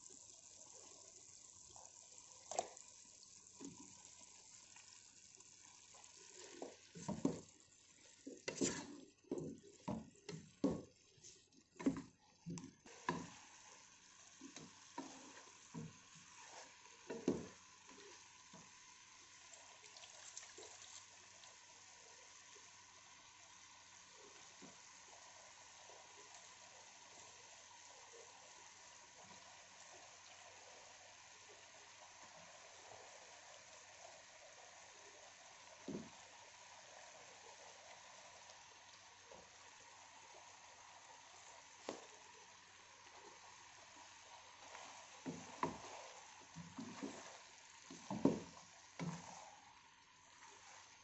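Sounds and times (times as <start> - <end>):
meat sizzling in a metal pot: 0.0 - 10.9, 12.8 - 51.0.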